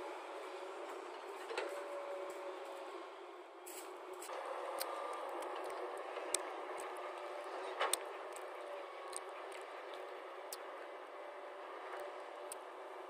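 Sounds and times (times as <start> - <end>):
excavator engine and hydraulic hum: 0.0 - 13.0.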